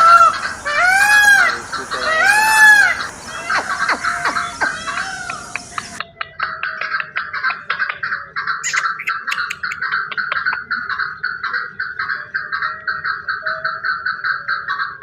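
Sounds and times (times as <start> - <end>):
large fowl calling: 0.0 - 6.0, 6.7 - 15.0.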